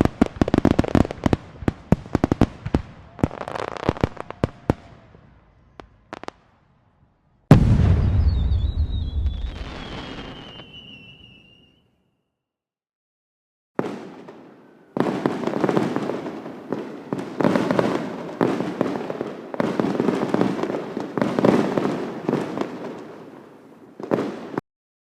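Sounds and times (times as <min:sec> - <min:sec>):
fireworks booms and crackles: 0:00.0 - 0:06.9, 0:07.5 - 0:11.6, 0:13.8 - 0:24.6.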